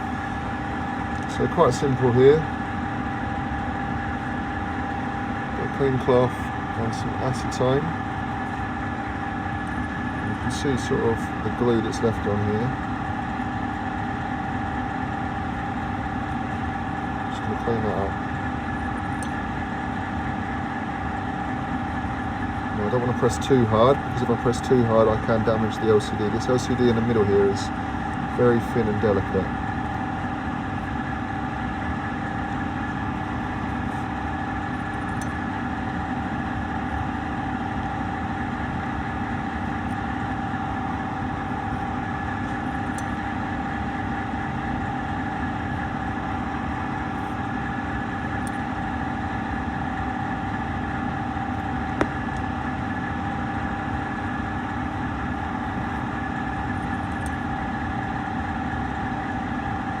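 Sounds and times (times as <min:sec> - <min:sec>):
cabinet fans blowing air: 0:00.0 - 1:00.0.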